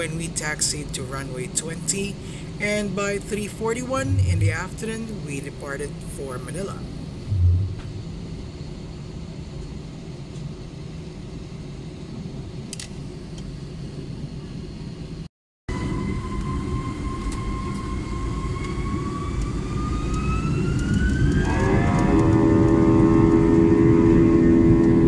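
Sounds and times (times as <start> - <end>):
jet engine whine rising: 0.0 - 25.0
jet engines rumbling: 0.0 - 25.0.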